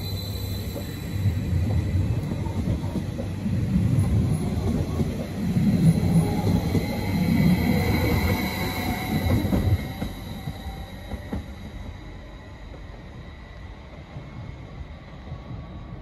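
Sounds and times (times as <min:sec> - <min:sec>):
thin high train whine: 0:00.0 - 0:16.0
train wheels rumbling: 0:00.0 - 0:16.0.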